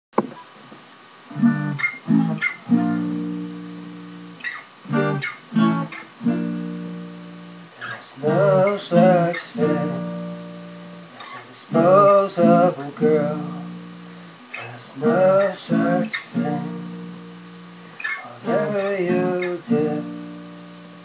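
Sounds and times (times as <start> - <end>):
acoustic guitar strumming: 1.3 - 21.0.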